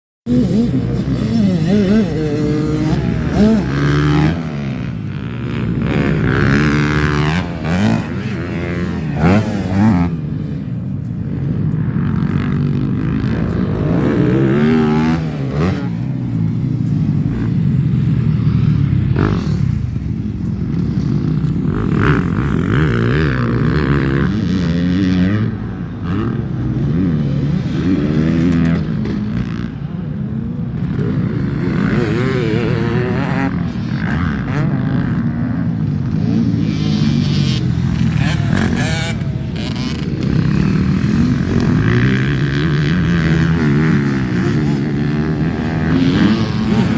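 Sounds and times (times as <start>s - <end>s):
motocross bike engines revving: 0.3s - 46.9s.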